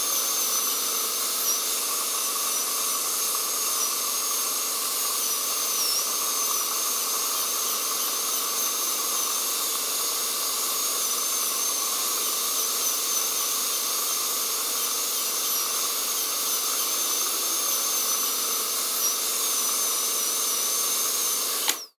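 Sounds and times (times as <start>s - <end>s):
dental drill whine: 0.0s - 22.0s
dental suction hiss: 0.0s - 22.0s.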